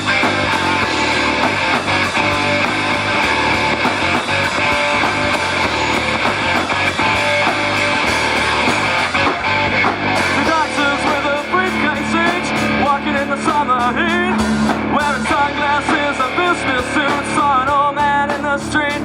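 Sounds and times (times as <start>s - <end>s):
electric guitar: 0.0s - 19.0s
live rock band playing: 0.0s - 19.0s.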